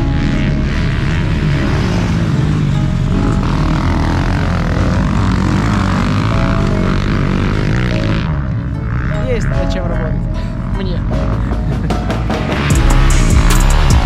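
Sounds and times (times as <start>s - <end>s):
background music: 0.0s - 14.0s
dirt bike engine revving: 0.0s - 14.0s.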